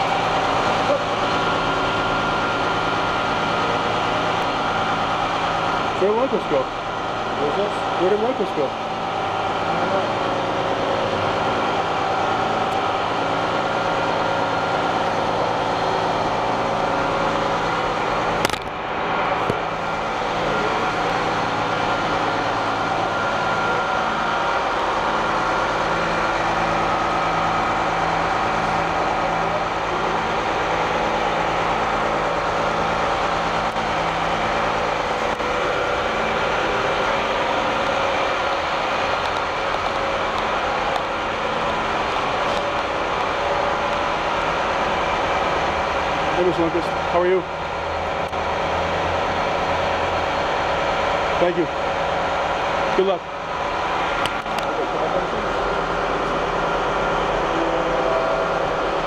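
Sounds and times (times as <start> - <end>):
mechanical drone with pulsing hum: 0.0 - 59.0.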